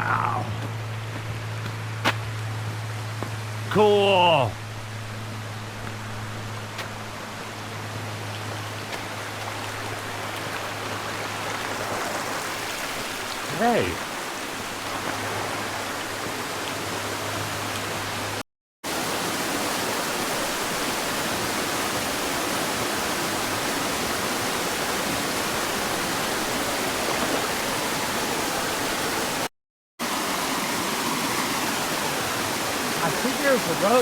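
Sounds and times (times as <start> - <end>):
waterfall and rapids rushing: 0.0 - 34.0.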